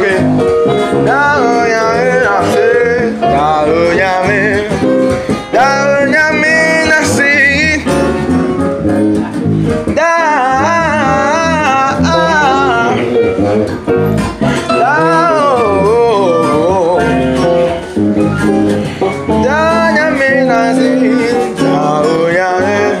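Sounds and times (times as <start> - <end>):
electric bass: 0.0 - 23.0
person singing: 0.0 - 23.0
strummed acoustic guitar: 0.0 - 23.0.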